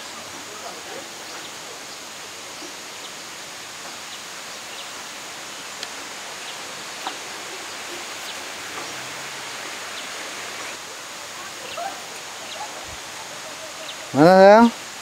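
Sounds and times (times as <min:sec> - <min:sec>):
forest ambience hiss: 0:00.0 - 0:15.0.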